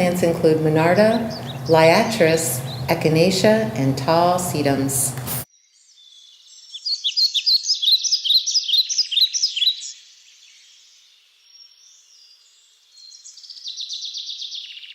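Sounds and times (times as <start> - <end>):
songbird chirping and trilling: 0.0 - 14.9.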